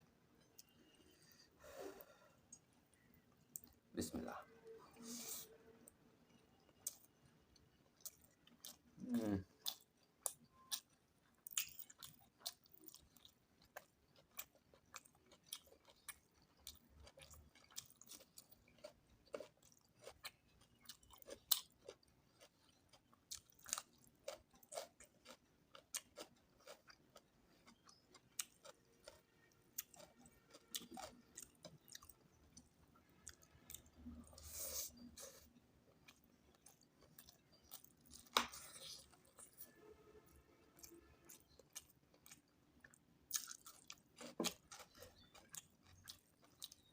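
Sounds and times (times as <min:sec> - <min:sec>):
person chewing food: 0:05.8 - 0:39.9, 0:40.6 - 0:46.9.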